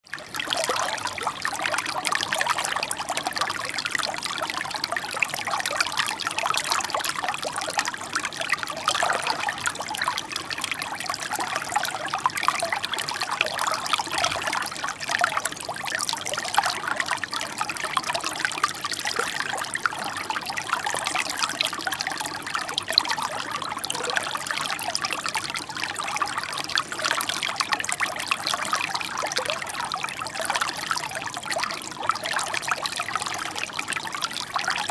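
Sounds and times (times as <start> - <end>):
water trickling over stones: 0.1 - 34.9.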